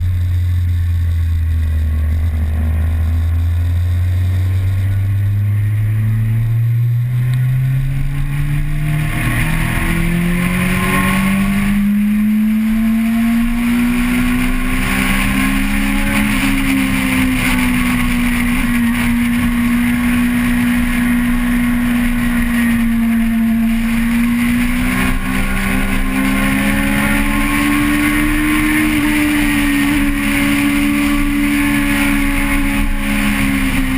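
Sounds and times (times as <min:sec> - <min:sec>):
steady rushing noise: 0:00.0 - 0:33.9
vehicle engine accelerating: 0:00.0 - 0:33.9.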